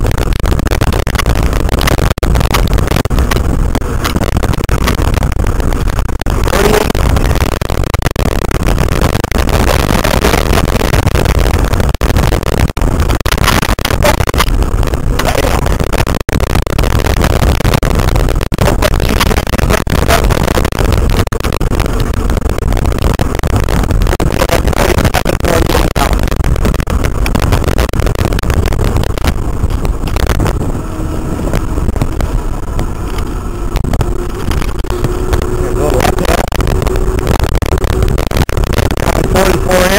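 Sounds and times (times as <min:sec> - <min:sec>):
faint steady whine: 0:00.0 - 0:39.9
wind rush on microphone: 0:00.0 - 0:39.9.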